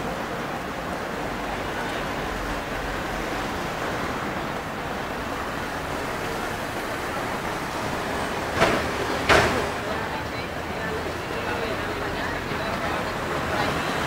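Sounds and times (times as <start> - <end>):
distant traffic: 0.0 - 14.0.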